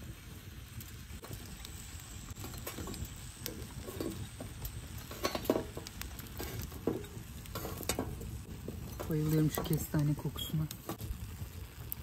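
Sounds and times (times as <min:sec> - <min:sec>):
chestnuts crackling in a pan: 0:00.0 - 0:12.0.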